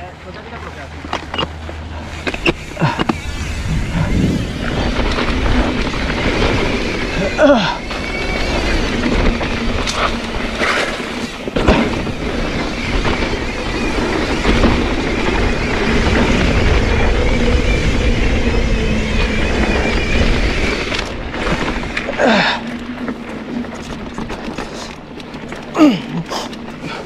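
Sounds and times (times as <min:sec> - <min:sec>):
bike rattling: 0:00.0 - 0:27.0
tyres rumbling over dirt: 0:00.0 - 0:27.0
wind buffeting microphone: 0:01.8 - 0:25.2.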